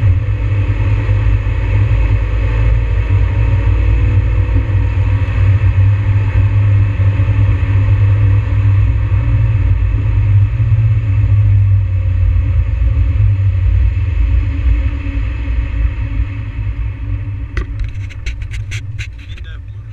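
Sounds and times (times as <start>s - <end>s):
car engine drone from cabin: 0.0s - 19.9s.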